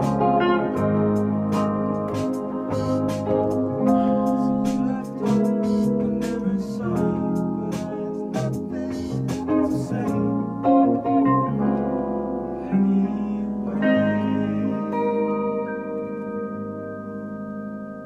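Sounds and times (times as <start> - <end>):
bass guitar: 0.0 - 18.0
electric guitar: 0.0 - 18.0
keyboard: 0.0 - 18.0.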